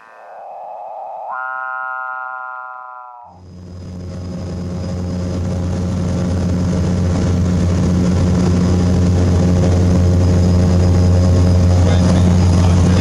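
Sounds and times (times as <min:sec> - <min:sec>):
propeller aircraft engine hum: 0:00.0 - 0:13.0.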